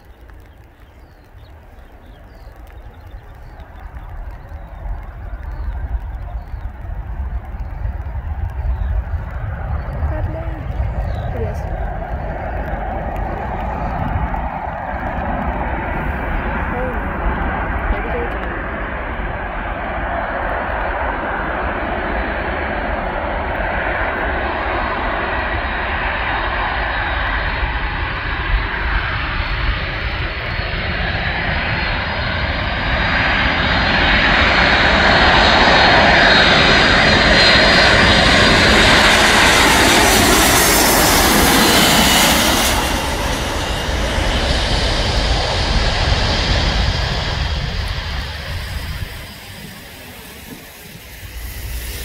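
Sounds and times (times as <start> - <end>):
jet aircraft whine and rumble: 0.0 - 52.0.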